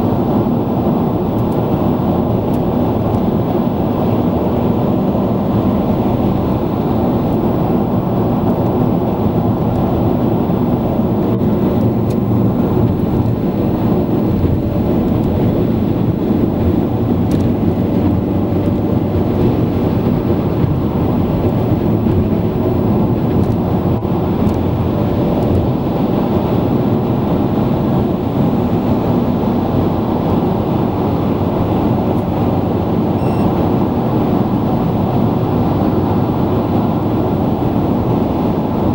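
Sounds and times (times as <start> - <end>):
car engine: 0.0 - 38.9
tyre and road noise: 0.0 - 38.9.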